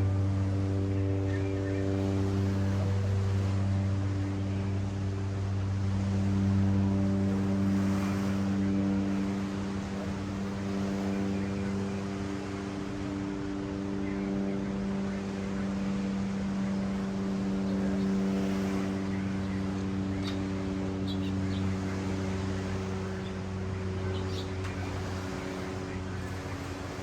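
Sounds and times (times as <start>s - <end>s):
low engine-like hum: 0.0s - 27.0s
ocean surf: 0.0s - 27.0s.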